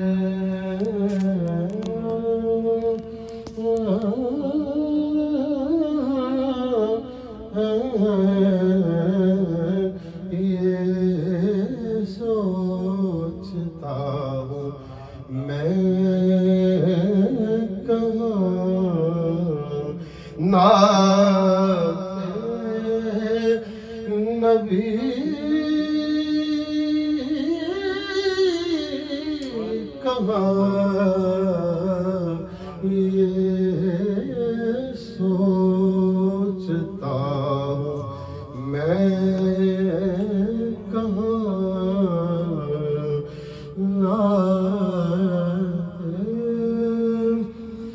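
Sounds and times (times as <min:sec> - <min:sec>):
man singing unaccompanied: 0:00.0 - 0:47.9.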